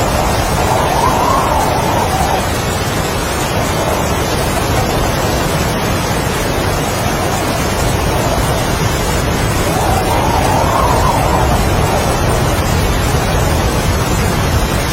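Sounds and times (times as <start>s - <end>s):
heavy rain: 0.0s - 14.9s
strong wind: 0.0s - 14.9s.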